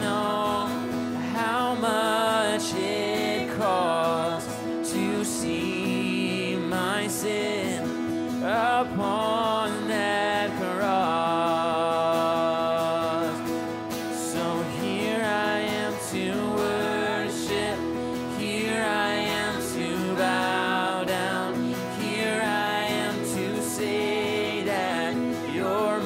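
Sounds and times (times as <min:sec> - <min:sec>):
woman singing: 0:00.0 - 0:13.0, 0:14.2 - 0:26.0
strummed acoustic guitar: 0:00.0 - 0:26.0.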